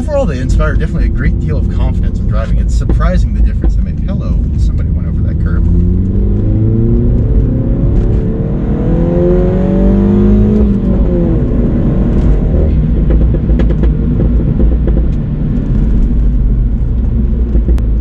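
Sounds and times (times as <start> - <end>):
car engine accelerating: 0.0 - 18.0
road and tyre noise: 0.0 - 18.0.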